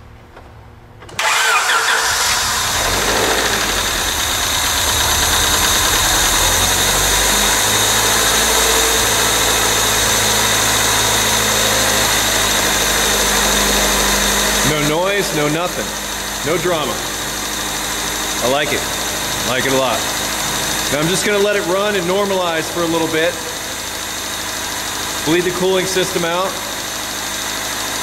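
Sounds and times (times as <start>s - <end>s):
car engine starting and idling: 1.0s - 28.0s.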